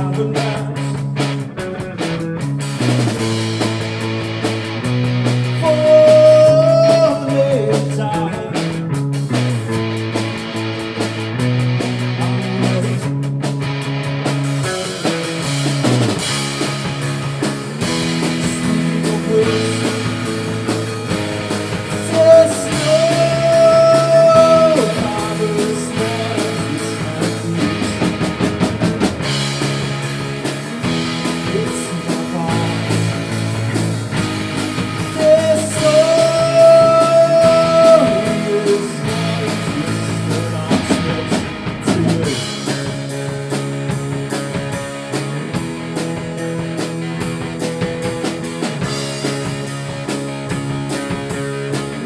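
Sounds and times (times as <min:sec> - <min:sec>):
drum kit: 0:00.0 - 0:52.0
electric bass: 0:00.0 - 0:52.0
electric guitar: 0:00.0 - 0:52.0.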